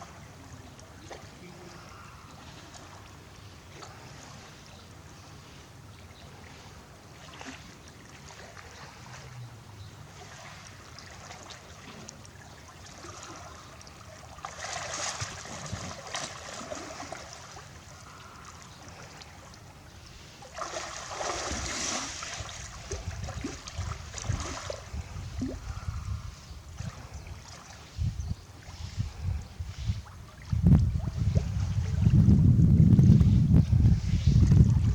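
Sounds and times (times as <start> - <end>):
water splashing and sloshing: 0.0 - 34.9.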